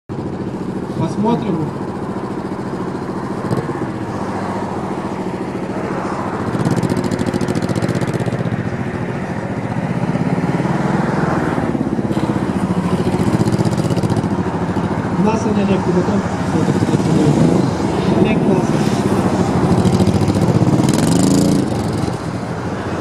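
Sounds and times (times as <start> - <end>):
motorcycle engine pulling away: 0.1 - 23.0.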